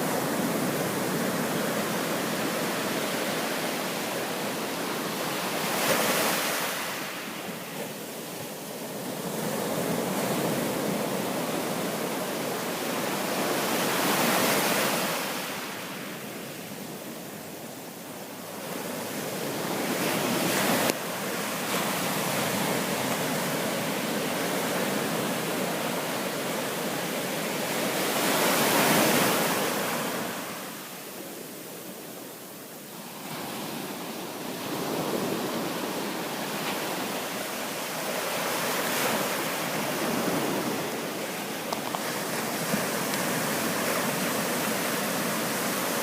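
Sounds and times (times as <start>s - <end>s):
ocean surf breaking on shore: 0.0s - 46.0s.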